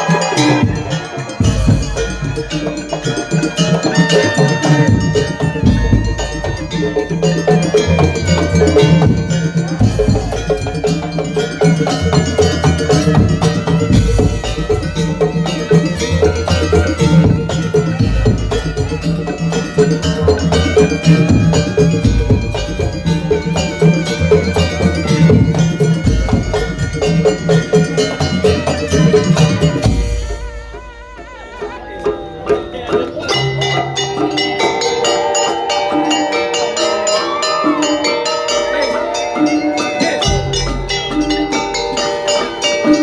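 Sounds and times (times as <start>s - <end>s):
low drum beat: 0.0s - 31.6s, 39.4s - 43.0s
held melodic tones: 0.0s - 43.0s
percussion ensemble playing: 0.0s - 43.0s.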